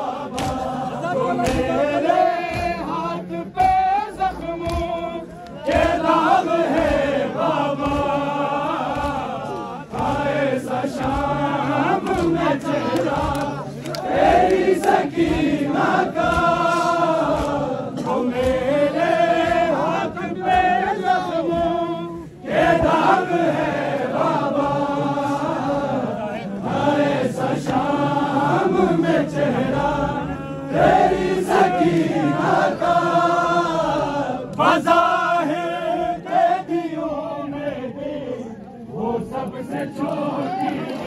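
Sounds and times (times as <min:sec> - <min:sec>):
crowd of men chanting: 0:00.0 - 0:41.0.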